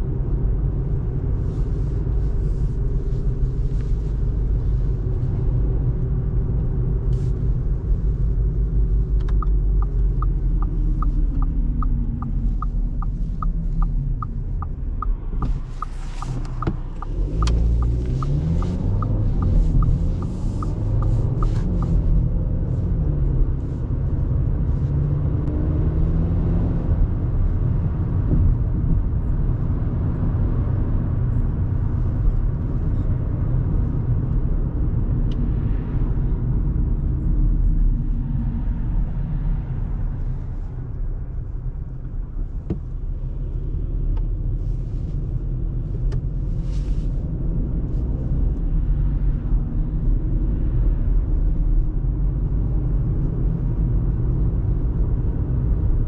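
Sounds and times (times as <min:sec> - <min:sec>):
car engine rumble: 0:00.0 - 0:56.0
road noise: 0:00.0 - 0:56.0.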